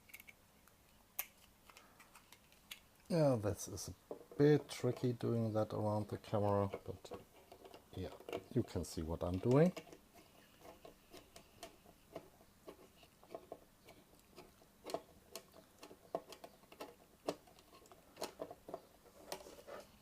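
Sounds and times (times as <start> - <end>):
parts being handled: 0.0 - 20.0.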